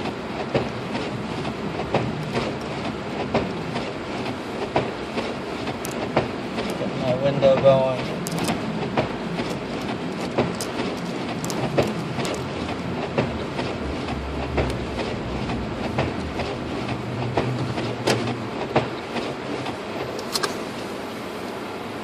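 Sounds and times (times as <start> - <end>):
car heater blower rushing air: 0.0 - 22.0.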